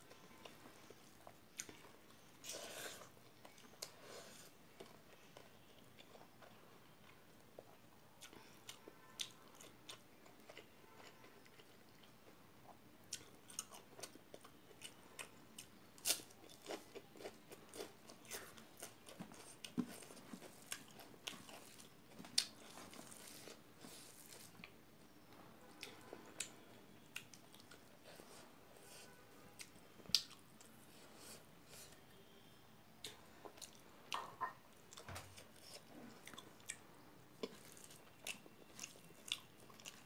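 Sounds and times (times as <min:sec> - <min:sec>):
person chewing and crunching: 0:00.0 - 0:24.8, 0:25.7 - 0:31.8, 0:33.0 - 0:40.0.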